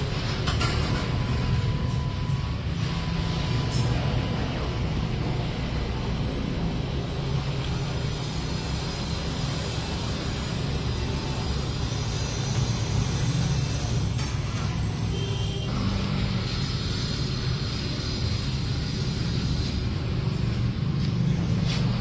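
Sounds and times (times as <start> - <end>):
motors rumbling: 0.0 - 22.0.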